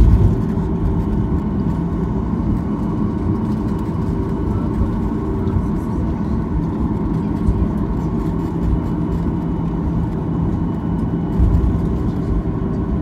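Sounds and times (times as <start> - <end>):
jet engines idling: 0.0 - 13.0
low cabin rumble: 0.0 - 13.0.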